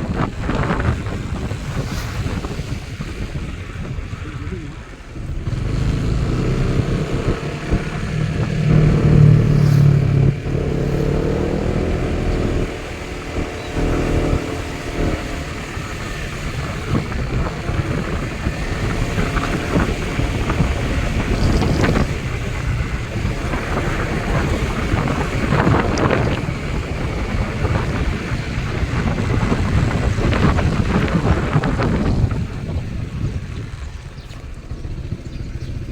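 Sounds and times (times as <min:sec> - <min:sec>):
motorboat engine running: 0:00.0 - 0:35.9
wind buffeting microphone: 0:00.0 - 0:35.9.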